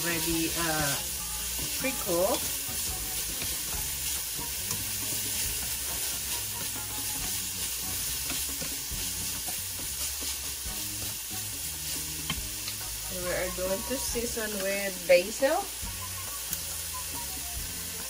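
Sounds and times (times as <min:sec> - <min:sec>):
chicken sizzling in oil: 0:00.0 - 0:18.0
chopsticks stirring in pan: 0:00.0 - 0:18.0.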